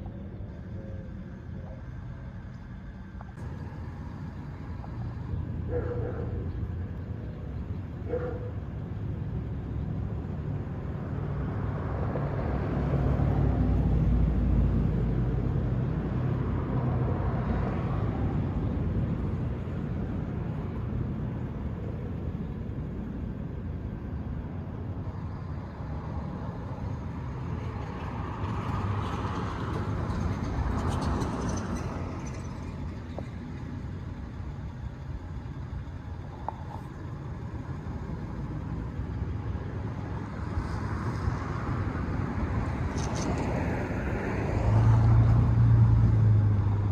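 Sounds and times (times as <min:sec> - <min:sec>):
background traffic: 0:00.0 - 0:46.9
road vehicles passing: 0:00.0 - 0:46.9.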